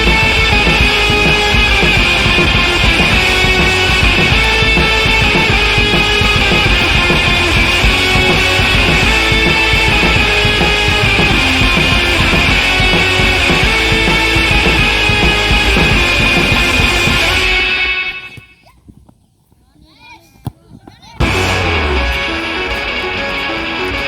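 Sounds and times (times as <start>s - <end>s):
fast rock music: 0.0s - 18.2s, 21.2s - 24.0s.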